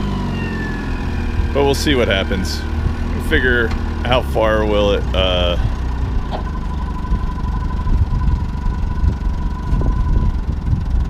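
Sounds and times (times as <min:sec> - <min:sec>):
engine idling: 0:00.0 - 0:11.0
thin steady whine: 0:00.0 - 0:11.0.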